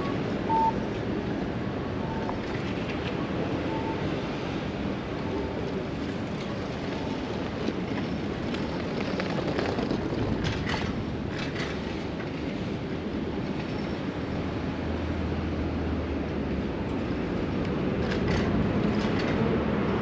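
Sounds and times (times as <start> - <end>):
tyres rolling on road: 0.0 - 20.0.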